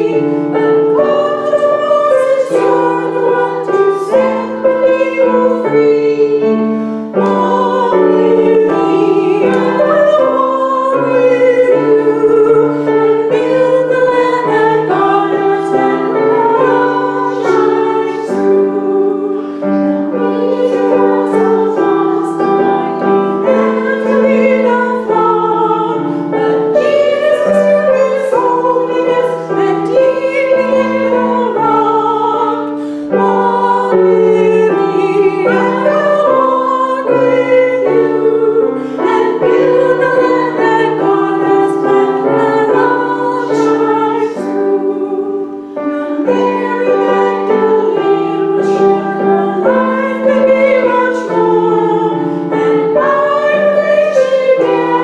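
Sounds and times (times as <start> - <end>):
group singing a hymn: 0.0 - 55.0
piano: 0.0 - 55.0.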